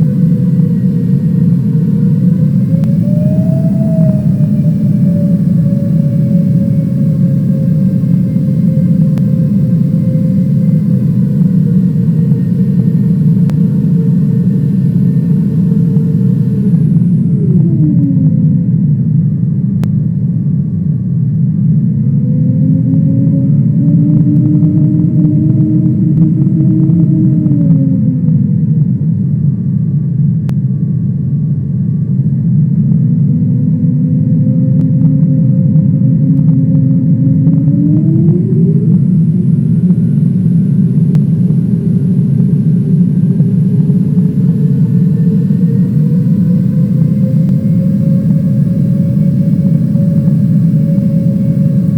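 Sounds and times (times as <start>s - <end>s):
engine whine falling in pitch: 0.0s - 51.9s
jet engine rumble in cabin: 0.0s - 51.9s.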